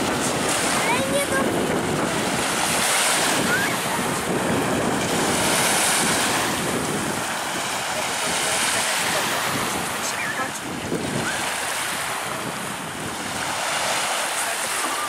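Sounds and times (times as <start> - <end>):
small waves breaking on shore: 0.0 - 15.0
wind buffeting microphone: 0.0 - 15.0.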